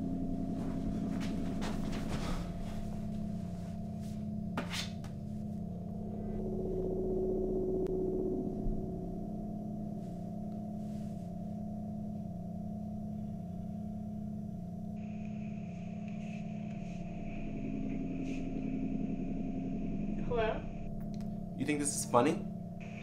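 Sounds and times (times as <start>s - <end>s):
synth drone: 0.0s - 23.0s.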